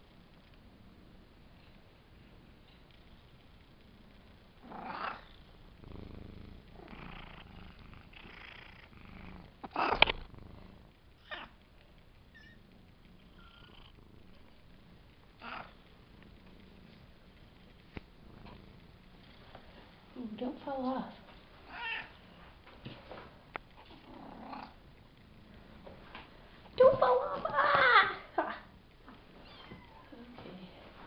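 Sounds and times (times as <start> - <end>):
kittens purring: 0.0 - 31.0.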